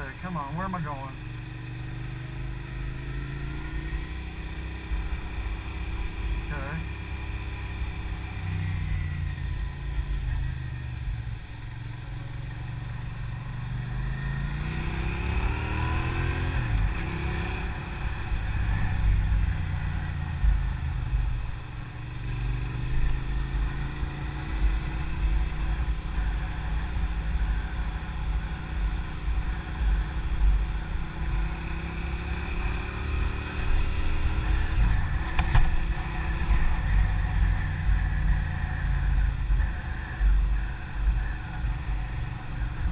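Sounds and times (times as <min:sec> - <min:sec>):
road and wind noise: 0:00.0 - 0:42.9
vehicle engine accelerating: 0:00.0 - 0:42.9.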